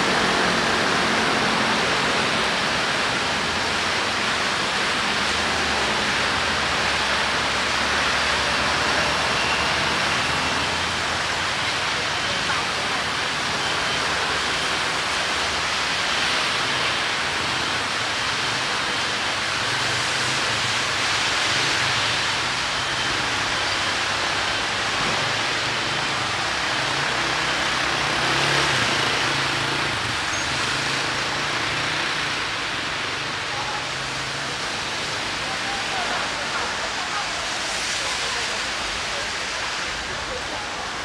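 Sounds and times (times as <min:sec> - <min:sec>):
rain on a street: 0:00.0 - 0:41.0
traffic hum: 0:00.0 - 0:41.0.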